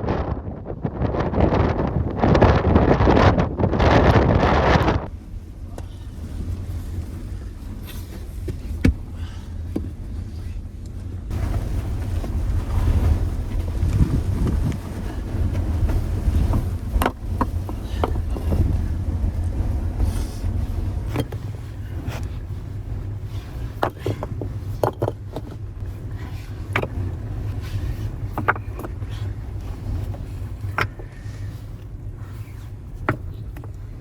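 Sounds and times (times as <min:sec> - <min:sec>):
blizzard wind buffeting microphone: 0:00.0 - 0:34.0.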